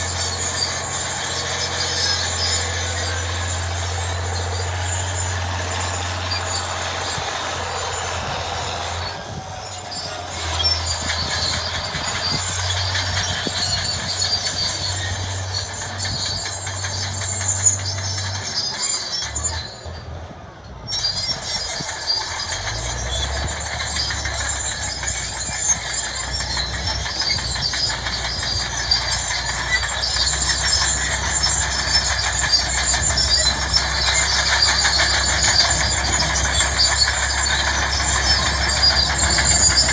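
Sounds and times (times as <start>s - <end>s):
steel tracks clattering and squealing: 0.0s - 39.9s
tractor engine running under load: 0.0s - 39.9s.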